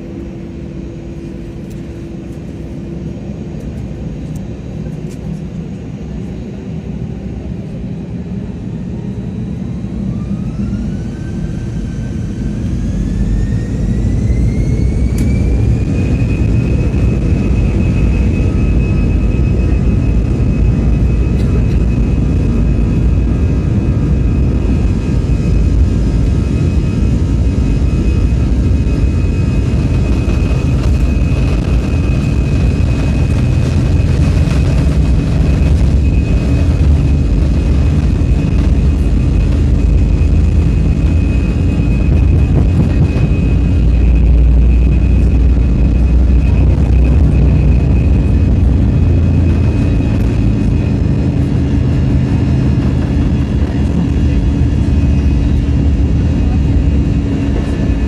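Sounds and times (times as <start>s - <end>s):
jet engines rumbling and whining: 0.0s - 58.0s.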